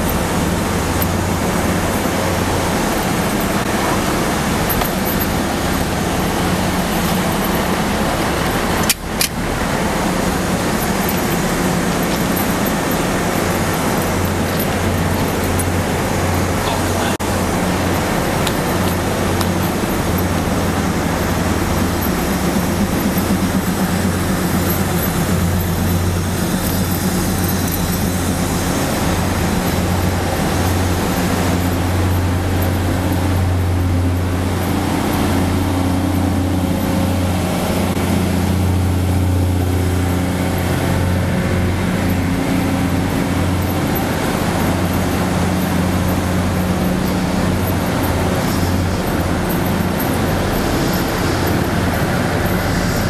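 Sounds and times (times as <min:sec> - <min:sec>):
train machinery humming: 0:00.0 - 0:53.0.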